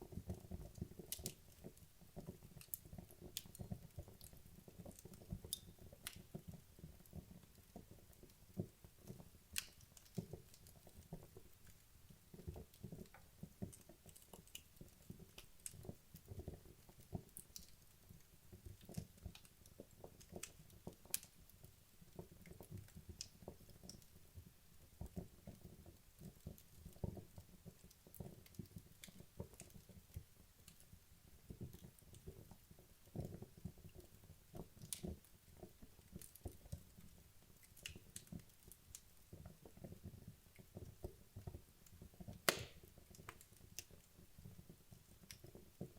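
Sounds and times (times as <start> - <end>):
wood fire crackling: 0.1 - 45.9.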